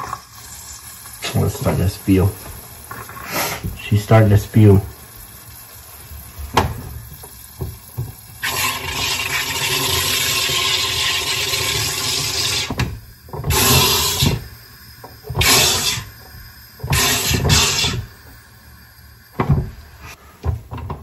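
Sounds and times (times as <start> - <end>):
carbonator hissing buzz: 0.0 - 21.0.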